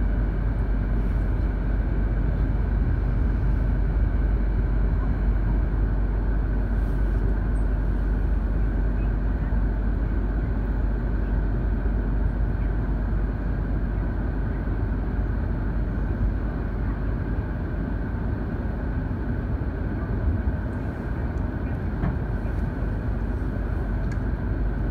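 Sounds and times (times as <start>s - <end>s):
train rumbling inside car: 0.0s - 24.9s.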